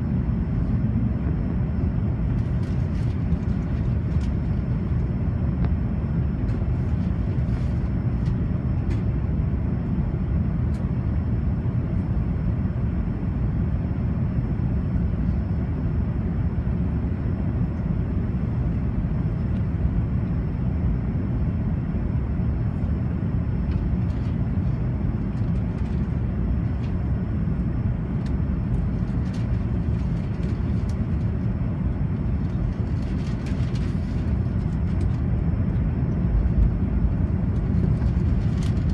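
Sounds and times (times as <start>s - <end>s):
aircraft engine rumble in cabin: 0.0s - 38.9s.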